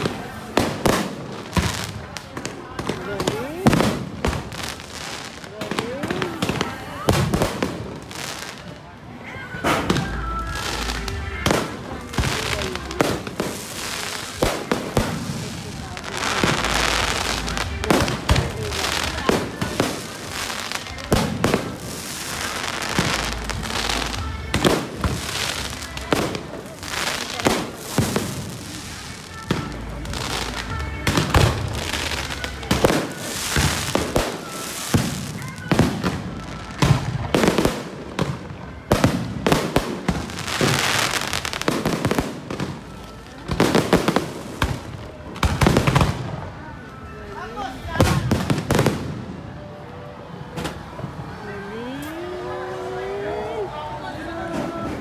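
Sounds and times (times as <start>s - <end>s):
fireworks bursting: 0.0s - 47.1s, 47.7s - 49.8s.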